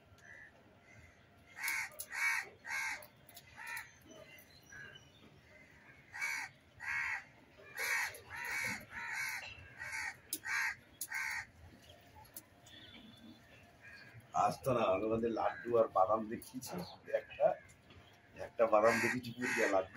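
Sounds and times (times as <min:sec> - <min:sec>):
crows cawing: 0:00.2 - 0:04.0, 0:04.7 - 0:11.8, 0:12.7 - 0:19.9.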